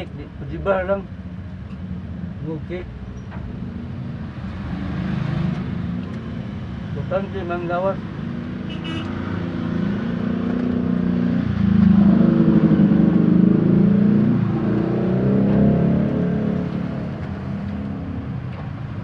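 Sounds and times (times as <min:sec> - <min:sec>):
vehicle engine revving: 0:03.4 - 0:19.0.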